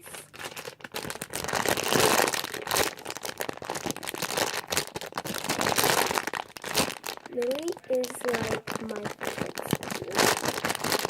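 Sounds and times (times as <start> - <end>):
foam toy crinkling and rustling: 0.0 - 11.0.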